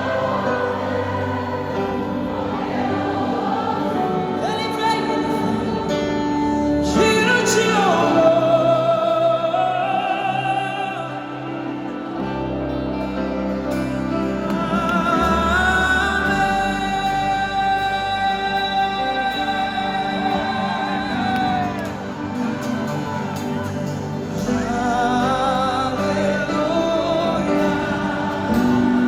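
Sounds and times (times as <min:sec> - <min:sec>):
band accompaniment: 0:00.0 - 0:29.0.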